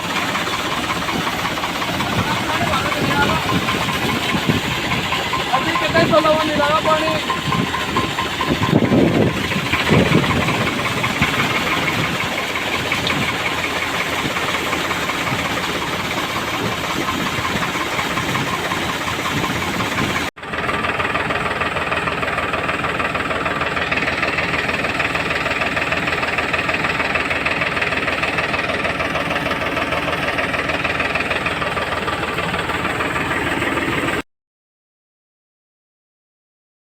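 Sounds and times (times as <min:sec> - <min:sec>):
machine running: 0:00.0 - 0:34.2.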